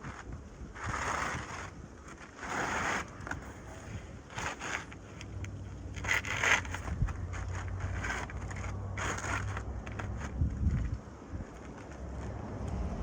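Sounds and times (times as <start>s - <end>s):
roof shingles scraping and crackling: 0.0s - 12.8s.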